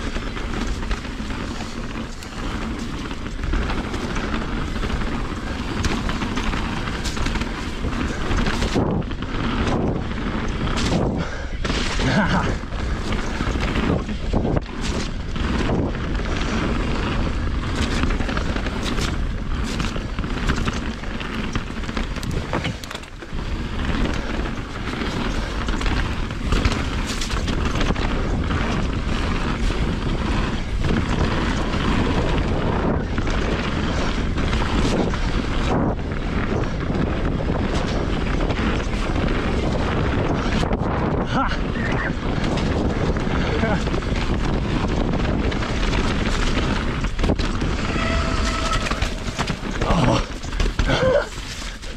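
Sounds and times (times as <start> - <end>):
bike frame and chain rattling: 0.0 - 51.9
wind buffeting microphone: 0.0 - 51.9.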